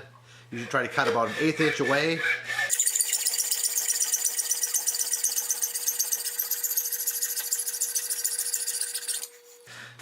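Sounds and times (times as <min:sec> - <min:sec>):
hacksaw cutting wood: 0:00.7 - 0:09.3.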